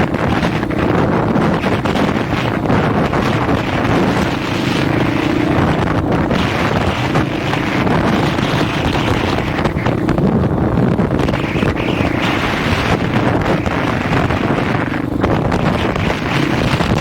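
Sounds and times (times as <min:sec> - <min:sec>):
dirt bike engine revving: 0:00.0 - 0:17.0
wind buffeting microphone: 0:00.0 - 0:17.0.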